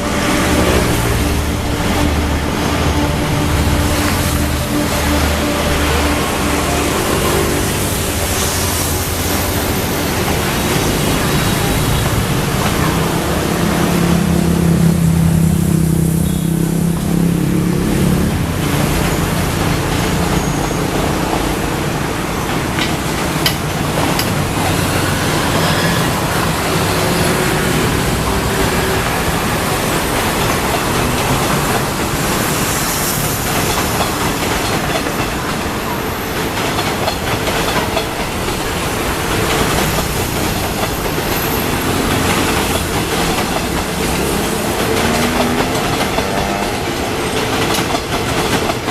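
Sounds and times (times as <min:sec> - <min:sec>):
train engine drone: 0:00.0 - 0:48.9
wheels rumbling on rails: 0:00.0 - 0:48.9.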